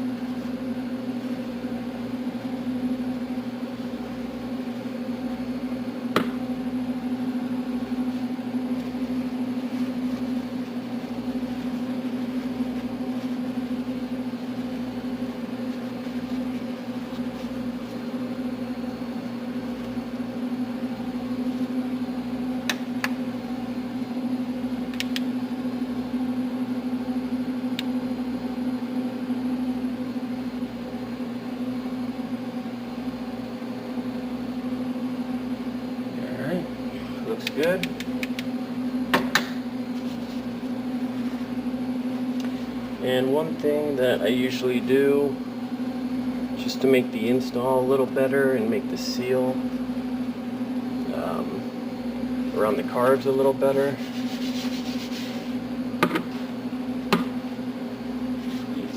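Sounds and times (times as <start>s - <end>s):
steady electric hum: 0.0s - 58.9s.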